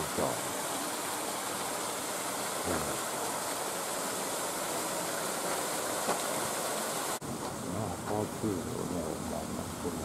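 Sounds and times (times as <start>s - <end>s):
fountain splashing: 0.0s - 10.0s.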